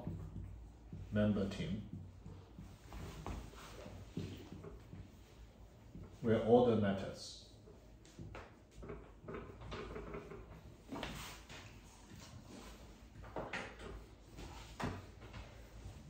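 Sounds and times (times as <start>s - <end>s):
faint room hum: 0.0s - 16.0s
marker drawing on whiteboard: 0.0s - 16.0s.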